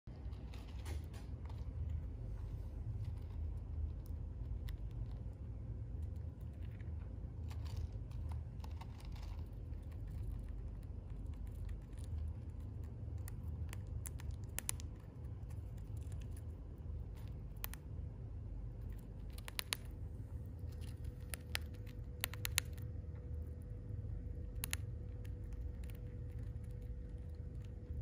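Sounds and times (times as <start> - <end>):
hamster gnawing dry food: 0.1 - 28.0
low background noise: 0.1 - 28.0.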